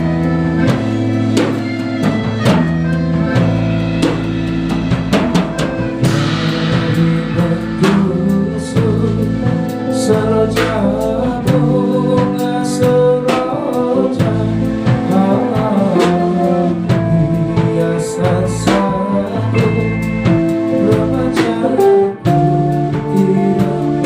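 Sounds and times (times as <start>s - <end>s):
band music: 0.0s - 24.0s
drum kit beat: 0.0s - 24.0s.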